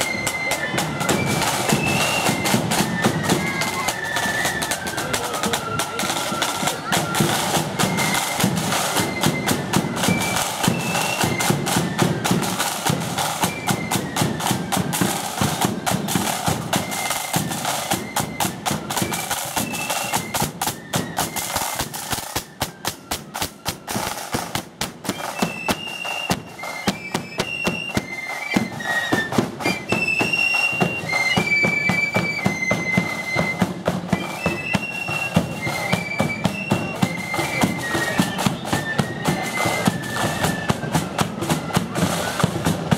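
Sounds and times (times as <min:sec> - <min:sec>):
flutes playing march melody: 0:00.0 - 0:42.9
snare drums: 0:00.0 - 0:42.9.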